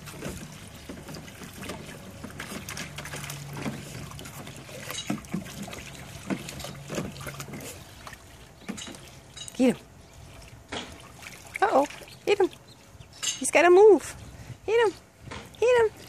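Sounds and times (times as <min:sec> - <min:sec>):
water splashing in pool: 0:00.0 - 0:13.6
low steady hum: 0:00.0 - 0:16.0.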